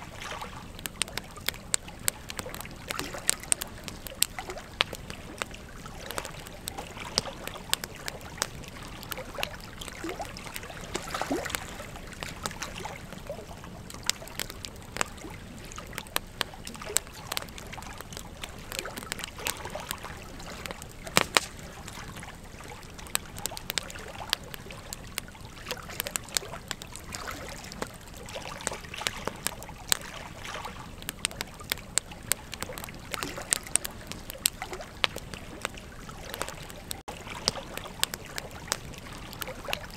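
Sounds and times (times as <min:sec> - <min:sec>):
burning wood crackling and popping: 0:00.0 - 0:39.9
soft hiss of flame: 0:00.0 - 0:39.9.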